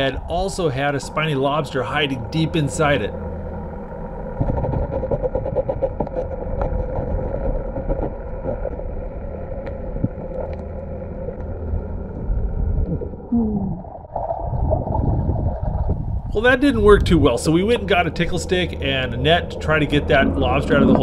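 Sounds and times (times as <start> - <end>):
faint steady hum: 0.0 - 21.0
low underwater rumble: 0.0 - 21.0.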